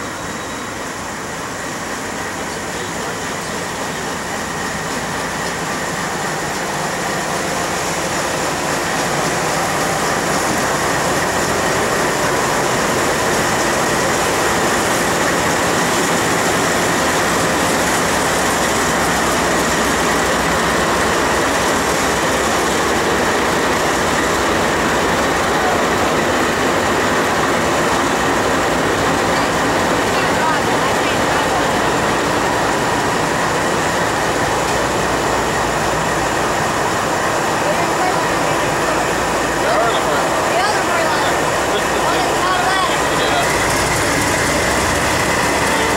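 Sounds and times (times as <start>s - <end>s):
diesel locomotive engines running: 0.0s - 45.9s
rumble of wheels on rail: 0.0s - 45.9s.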